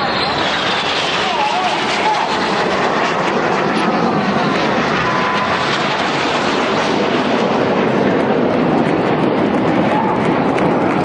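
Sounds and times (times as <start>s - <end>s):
falling whine: 0.0s - 11.0s
jets flying past: 0.0s - 11.0s.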